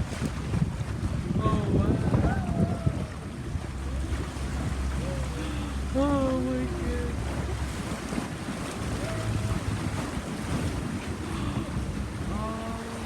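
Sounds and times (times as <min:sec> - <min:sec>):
waves washing: 0:00.0 - 0:13.0
wind buffeting microphone: 0:00.0 - 0:13.0
low rumble: 0:00.4 - 0:13.0.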